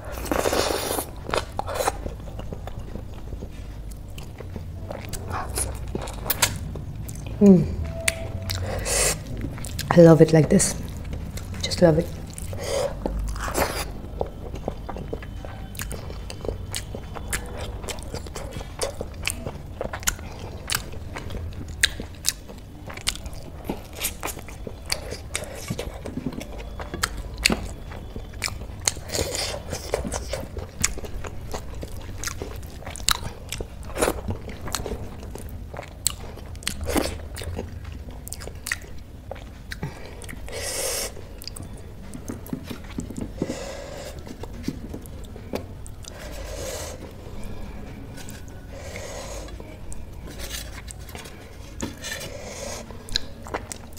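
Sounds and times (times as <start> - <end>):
chewing with crisp crunches: 0.0 - 53.9.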